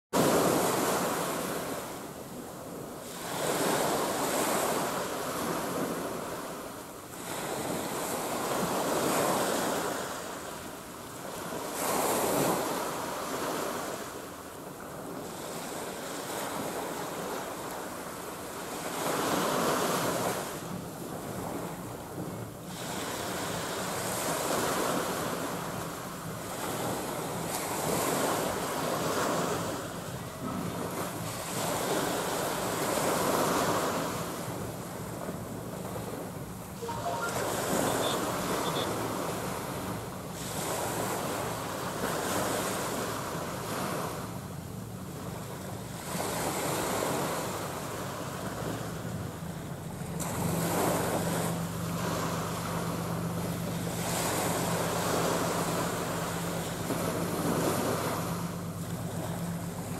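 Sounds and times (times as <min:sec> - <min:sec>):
small waves washing: 0:00.2 - 0:59.9.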